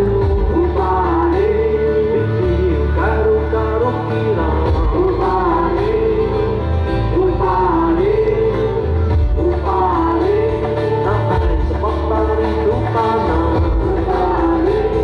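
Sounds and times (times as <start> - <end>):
bass line: 0.0 - 15.0
live band music: 0.0 - 15.0
person singing: 0.0 - 15.0.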